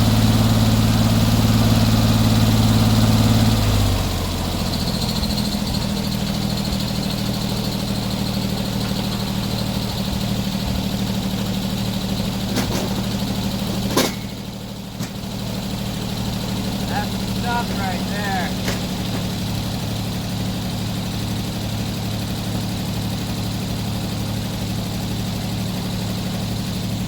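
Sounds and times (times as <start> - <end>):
sawmill engine idling: 0.0 - 27.0.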